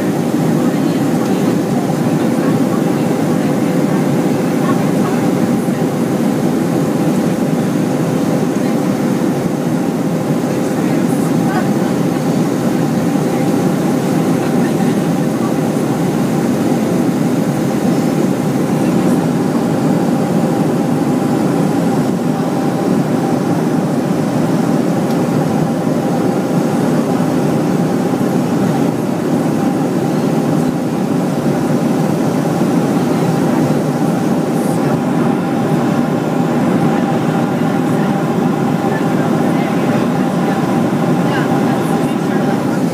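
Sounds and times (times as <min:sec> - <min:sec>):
jet engine cabin rumble: 0:00.0 - 0:42.9.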